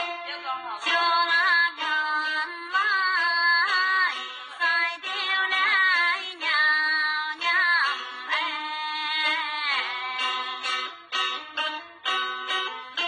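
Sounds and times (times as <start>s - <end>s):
plucked string accompaniment: 0.0s - 13.0s
woman singing folk song: 0.0s - 13.0s.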